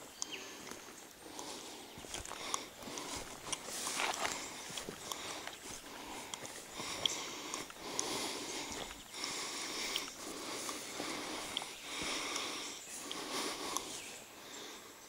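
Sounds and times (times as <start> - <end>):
person breathing hard: 0.0 - 15.0.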